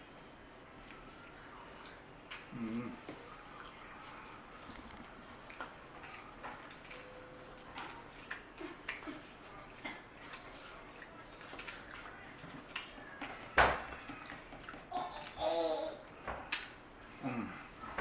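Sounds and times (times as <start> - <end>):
eating mouth noises: 1.8 - 17.8.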